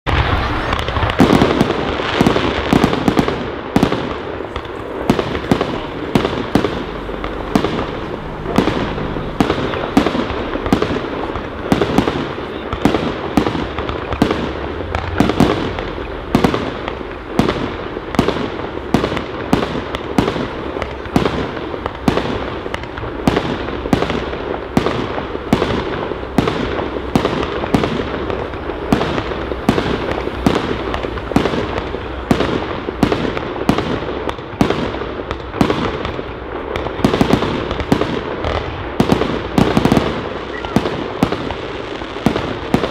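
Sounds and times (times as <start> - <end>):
fireworks battery bangs: 0.1 - 42.9.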